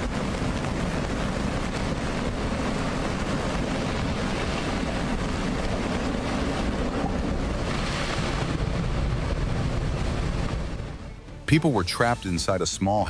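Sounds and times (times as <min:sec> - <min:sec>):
floodwater rushing: 0:00.0 - 0:12.9.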